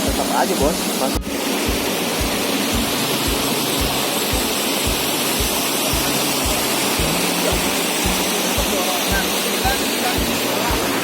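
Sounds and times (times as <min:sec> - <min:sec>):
rushing water: 0:00.0 - 0:11.0
low repeating thump: 0:01.2 - 0:10.9.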